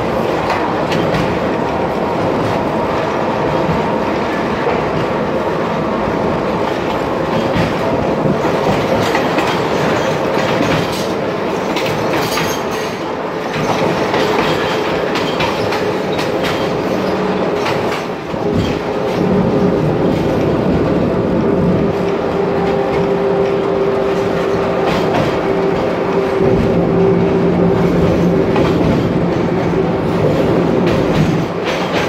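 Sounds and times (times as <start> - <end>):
train rumble and rush: 0.0 - 32.0
wheels clickety-clack: 0.2 - 5.2, 6.6 - 32.0.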